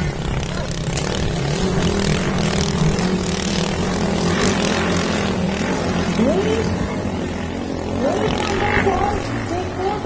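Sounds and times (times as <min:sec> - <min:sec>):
boat engines running at speed: 0:00.0 - 0:10.0
rising engine whine: 0:00.0 - 0:10.0.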